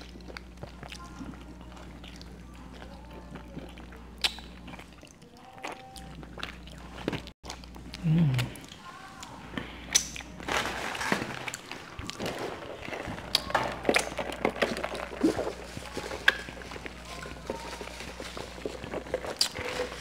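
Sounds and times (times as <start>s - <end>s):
crunching and chewing fried food: 0.0s - 20.0s.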